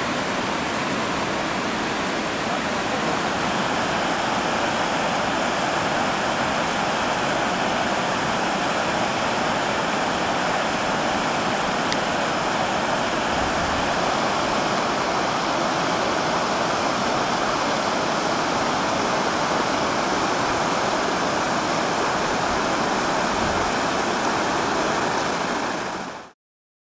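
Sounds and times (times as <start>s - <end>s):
river rushing over rocks: 0.0s - 26.3s.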